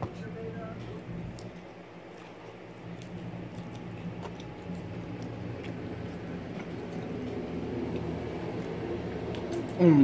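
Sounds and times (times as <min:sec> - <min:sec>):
steady low hum: 0:00.0 - 0:10.0
people chewing chicken wings: 0:00.8 - 0:10.0.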